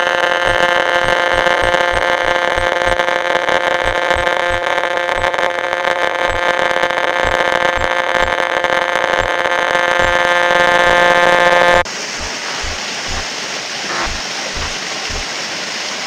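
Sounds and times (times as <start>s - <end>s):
electronic drone chord: 0.0s - 13.3s.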